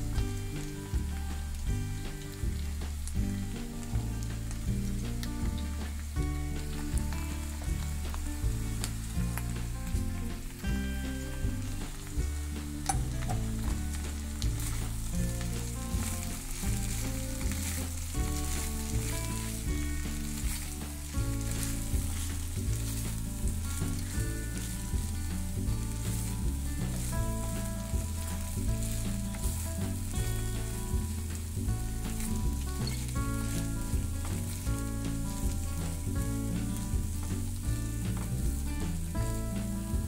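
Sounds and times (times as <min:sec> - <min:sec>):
food sizzling in oil: 0:00.0 - 0:40.0
light background music: 0:00.0 - 0:40.0
spatula stirring: 0:02.1 - 0:39.8.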